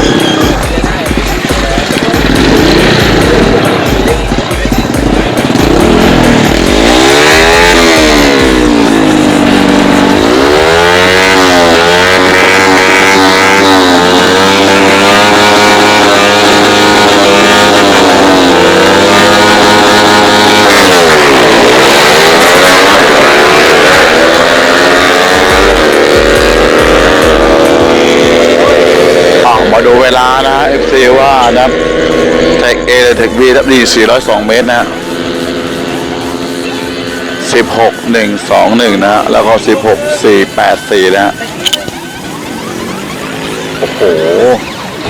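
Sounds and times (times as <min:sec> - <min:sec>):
motorcycle engines racing: 0:00.0 - 0:45.0.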